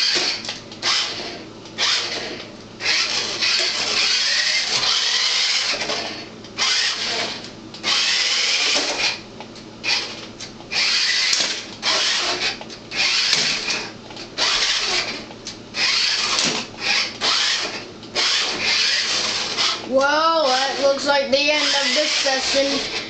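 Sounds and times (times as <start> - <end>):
toy car motor whining: 0.0 - 9.2, 9.8 - 15.2, 15.8 - 23.0.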